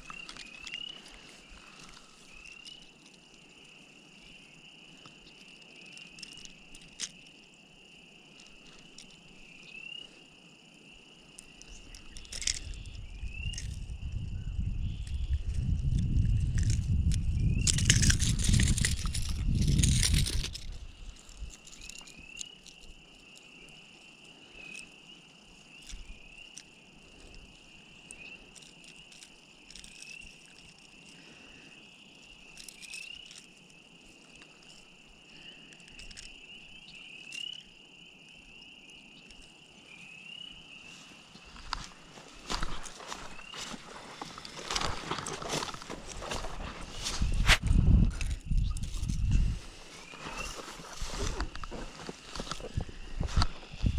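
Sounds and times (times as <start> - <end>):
frogs trilling: 0.0 - 7.5, 8.4 - 10.3, 11.0 - 47.2.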